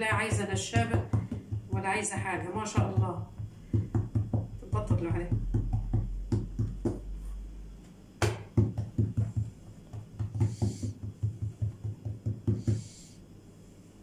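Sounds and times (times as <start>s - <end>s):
hands patting dough: 0.0s - 7.4s, 8.2s - 13.0s.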